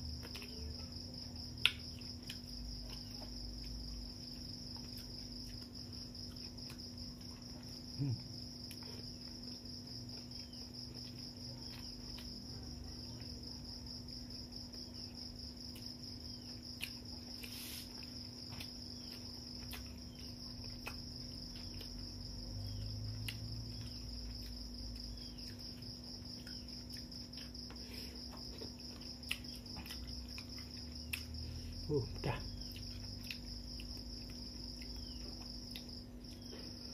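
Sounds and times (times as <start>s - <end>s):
insect chirring: 0.0s - 36.9s.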